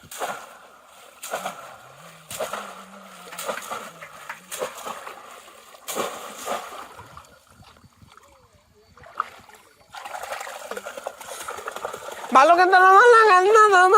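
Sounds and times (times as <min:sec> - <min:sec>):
water splashing: 0:00.0 - 0:13.9.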